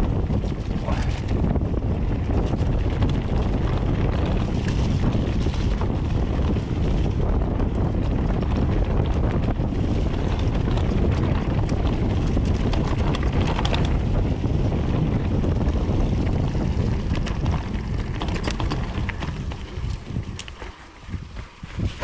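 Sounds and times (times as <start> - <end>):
bike clicks and rattles: 0.0 - 22.0
wind rushing over microphone: 0.0 - 22.0.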